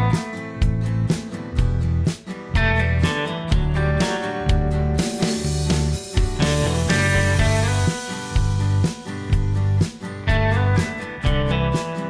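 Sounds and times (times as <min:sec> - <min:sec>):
country guitar music: 0:00.0 - 0:12.0.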